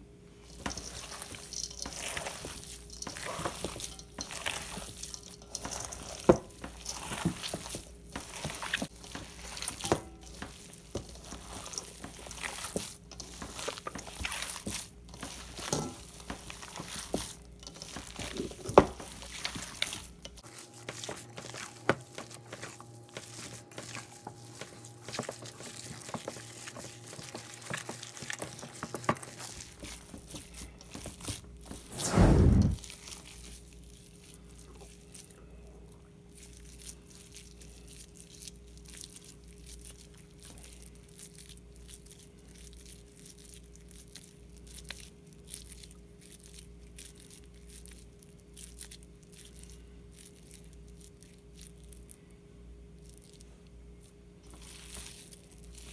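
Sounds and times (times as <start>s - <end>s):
hands squelching ground meat: 0.3s - 52.3s, 52.9s - 55.9s.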